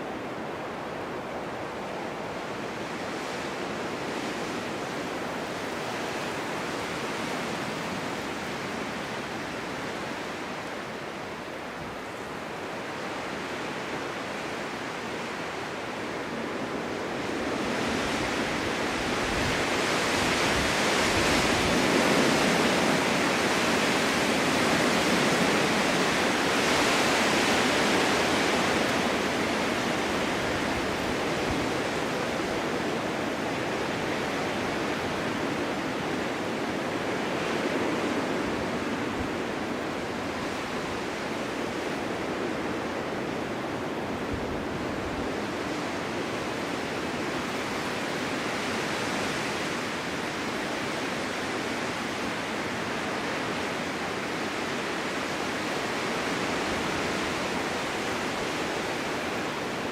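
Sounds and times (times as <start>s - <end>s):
snowstorm wind blowing: 0.0s - 59.9s.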